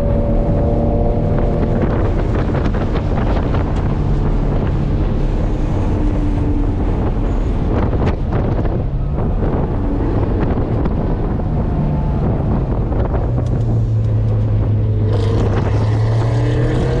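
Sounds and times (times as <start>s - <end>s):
car engine from inside cabin: 0.0s - 17.0s
wind and road noise: 0.0s - 17.0s.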